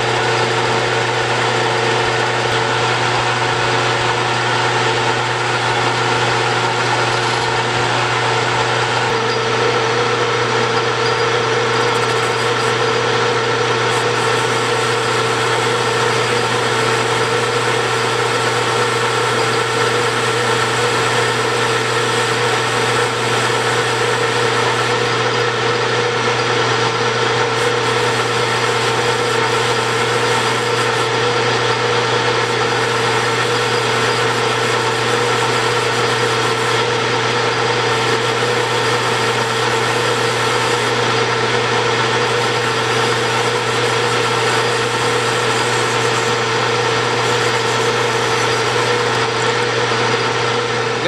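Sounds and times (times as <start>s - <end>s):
metal lathe whining: 0.0s - 51.0s
parting tool cutting metal: 5.8s - 51.0s.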